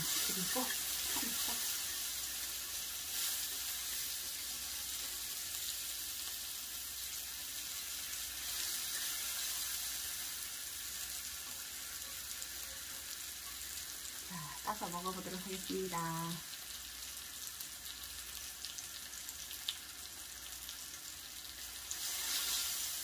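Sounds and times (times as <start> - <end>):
meat sizzling on a grill pan: 0.0 - 23.0.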